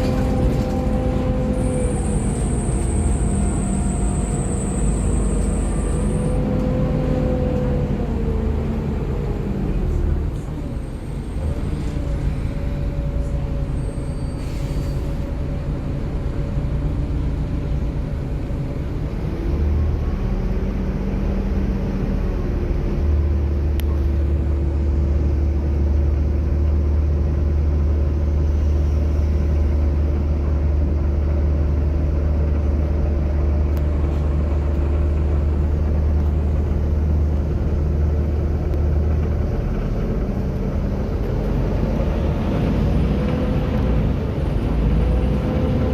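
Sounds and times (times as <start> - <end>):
bus diesel engine drone: 0.0 - 45.9.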